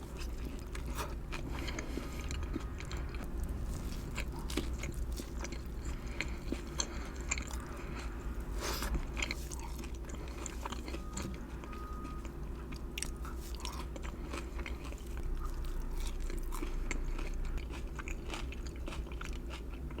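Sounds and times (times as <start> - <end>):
close chewing and mouth smacks: 0.0 - 20.0
food crunching: 0.0 - 20.0
low steady hum: 0.0 - 20.0.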